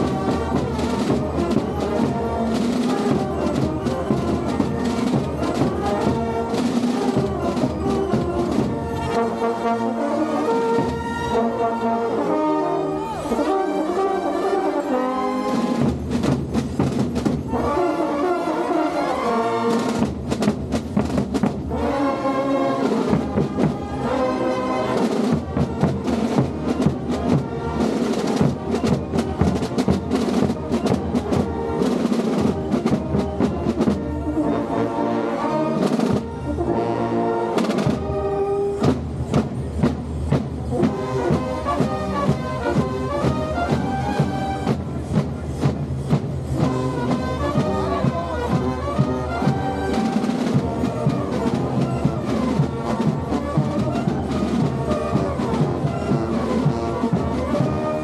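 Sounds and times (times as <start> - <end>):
brass band with tuba: 0.0 - 58.0.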